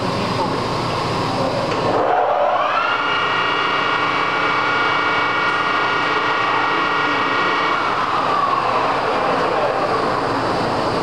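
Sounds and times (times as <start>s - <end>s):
lathe spindle whine: 0.0s - 11.0s.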